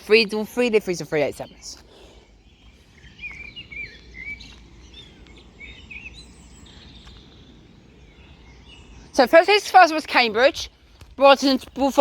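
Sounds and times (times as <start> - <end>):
low steady background rumble: 0.0 - 12.0
small birds chirping: 0.0 - 12.0.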